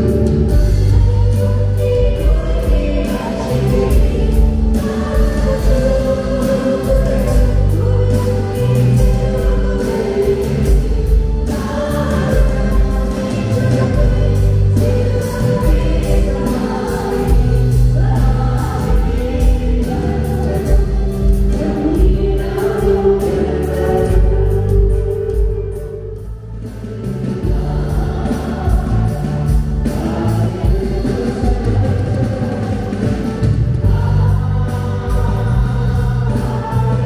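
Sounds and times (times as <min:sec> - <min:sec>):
amplified band music: 0:00.0 - 0:37.0
group of voices singing: 0:00.0 - 0:37.0.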